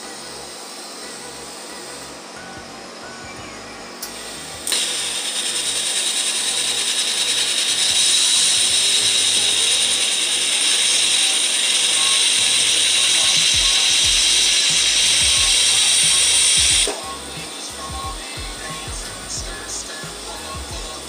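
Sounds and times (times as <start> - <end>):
welding arc crackling: 4.0 - 21.0.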